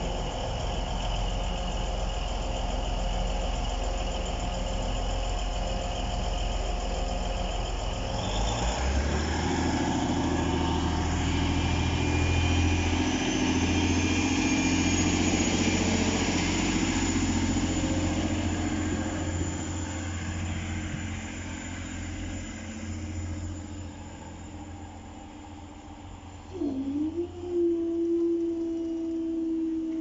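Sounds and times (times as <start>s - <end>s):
diesel train engine running: 0.0s - 30.0s.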